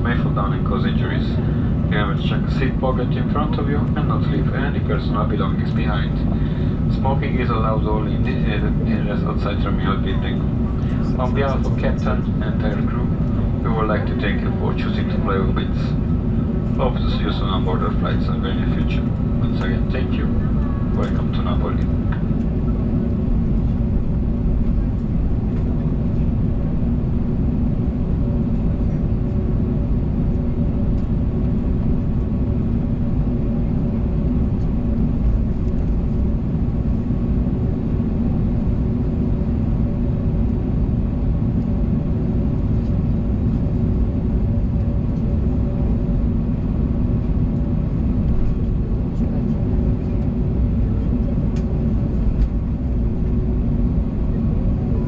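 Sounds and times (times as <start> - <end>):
faint humming tones: 0.0 - 55.0
low rumble inside aircraft cabin: 0.0 - 55.0.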